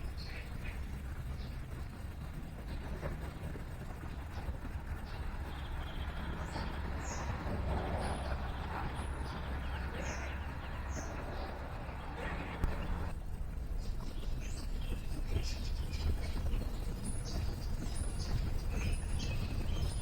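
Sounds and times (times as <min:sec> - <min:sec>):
distant city traffic rumble: 0:00.0 - 0:20.0.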